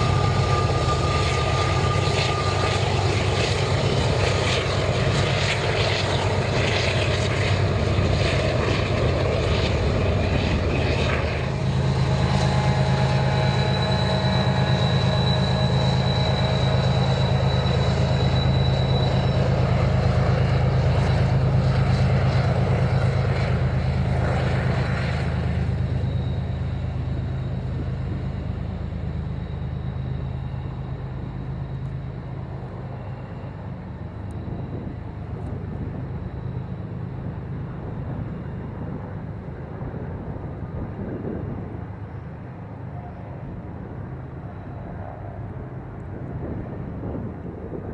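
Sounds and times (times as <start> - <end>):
high squeal: 0.0 - 39.8
freight train engines droning: 0.0 - 47.9.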